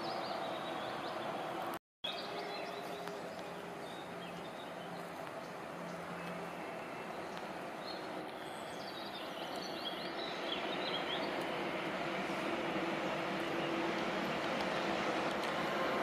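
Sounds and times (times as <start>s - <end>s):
birds chirping: 0.0s - 14.0s
freight train rumble: 2.7s - 16.0s.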